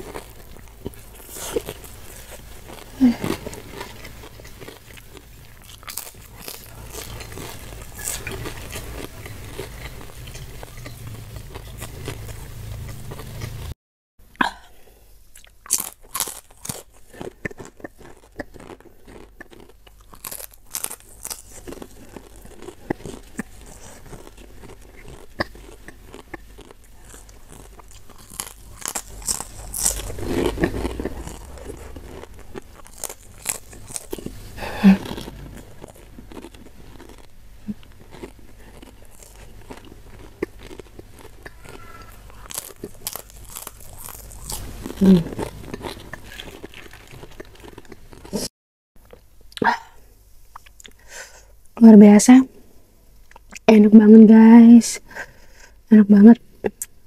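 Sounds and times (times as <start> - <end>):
person chewing crisp food: 0.0 - 13.8, 15.3 - 49.6, 50.5 - 51.6, 53.2 - 53.7.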